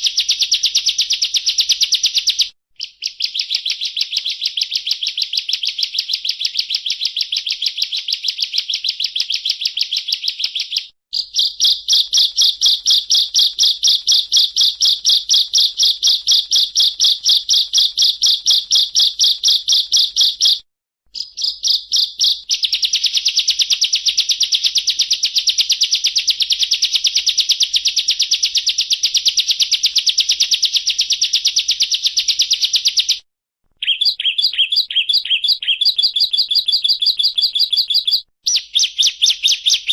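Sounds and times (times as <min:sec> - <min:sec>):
bird singing rapid high trill: 0:00.0 - 0:20.6, 0:21.2 - 0:33.2, 0:33.8 - 0:39.9.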